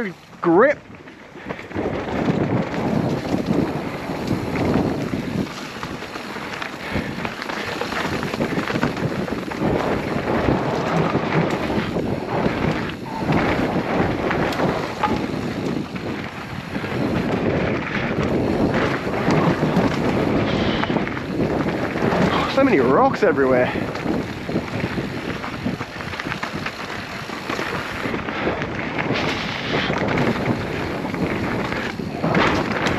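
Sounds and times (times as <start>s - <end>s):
tyres rolling over rocky trail: 0.0s - 32.9s
wind rushing over microphone: 0.0s - 32.9s.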